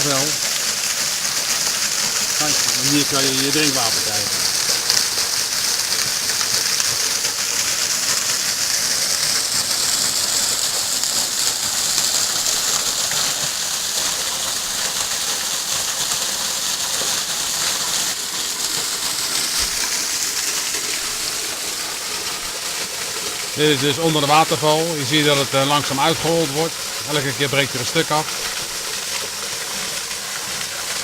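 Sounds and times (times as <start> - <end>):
falling water splashing: 0.0 - 31.0.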